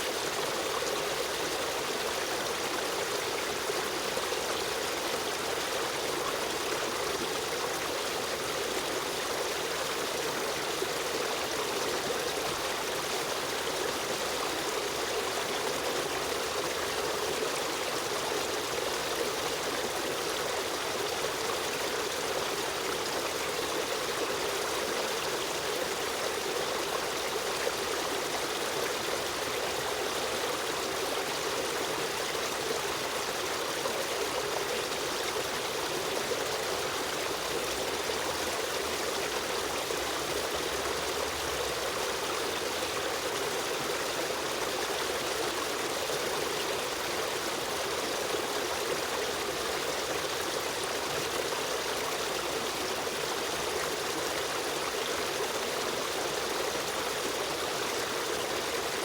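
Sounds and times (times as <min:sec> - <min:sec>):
stream water over stones: 0:00.0 - 0:59.0.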